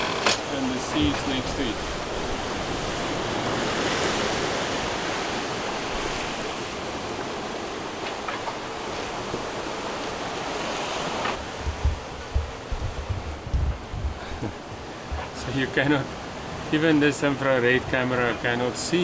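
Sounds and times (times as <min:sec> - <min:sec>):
sea water rushing past hull: 0:00.0 - 0:19.0
wind: 0:00.0 - 0:19.0.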